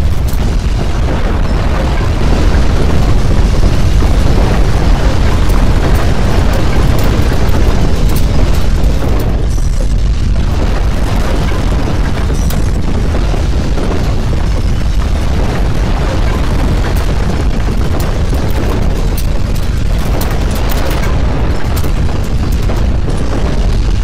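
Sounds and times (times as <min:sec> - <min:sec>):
crackles and rattles: 0:00.0 - 0:24.0
earthquake deep rumbling: 0:00.0 - 0:24.0.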